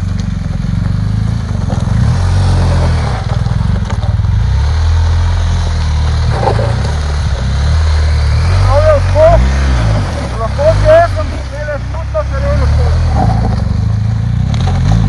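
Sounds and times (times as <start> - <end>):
motorcycle engine revving: 0.0 - 15.0
tyres on loose gravel: 0.0 - 15.0.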